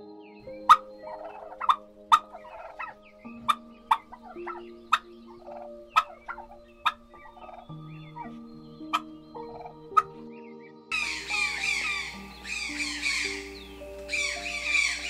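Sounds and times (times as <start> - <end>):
turkeys gobbling: 0.6 - 10.2, 10.9 - 15.0.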